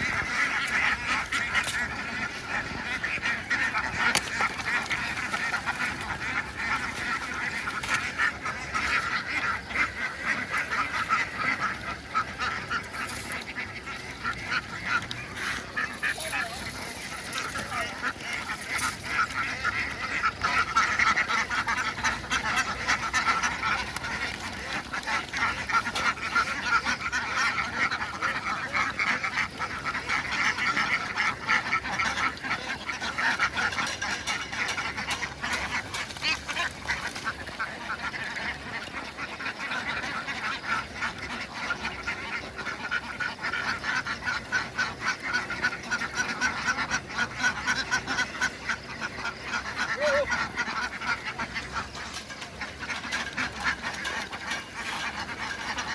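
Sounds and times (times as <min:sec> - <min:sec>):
flock of ducks quacking: 0:00.0 - 0:55.9.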